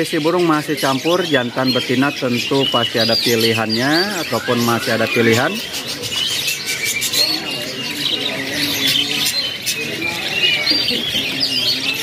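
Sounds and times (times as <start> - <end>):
canaries chirping: 0.0 - 12.0.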